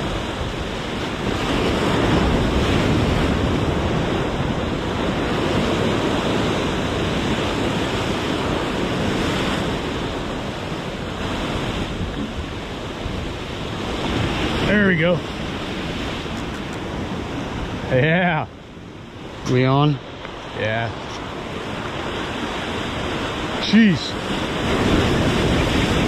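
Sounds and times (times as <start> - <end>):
surf breaking against rocks: 0.0 - 26.0
wind on microphone: 0.0 - 26.0.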